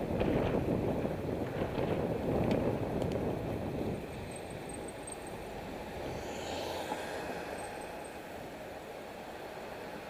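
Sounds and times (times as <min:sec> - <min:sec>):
wind rushing on microphone: 0:00.0 - 0:08.5
road noise while cycling: 0:00.0 - 0:10.0.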